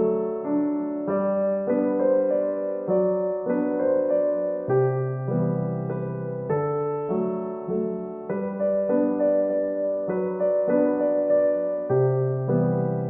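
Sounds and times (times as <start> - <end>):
soft piano melody: 0.0 - 13.0.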